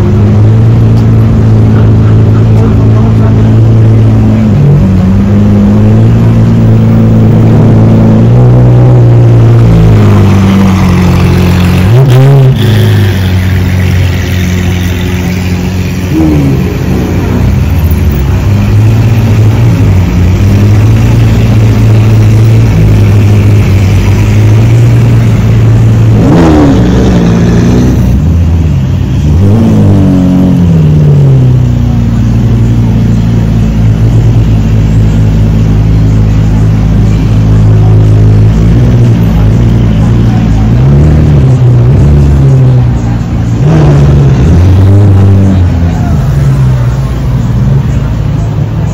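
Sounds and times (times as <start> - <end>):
car engines running deep: 0.0 - 48.9
engine throttle blips: 0.0 - 48.9.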